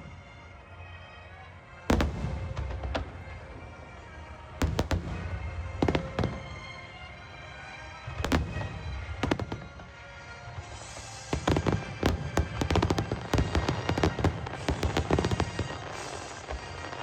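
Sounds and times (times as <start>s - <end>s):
fireworks booming and crackling: 0.0s - 17.0s
music: 0.0s - 17.0s.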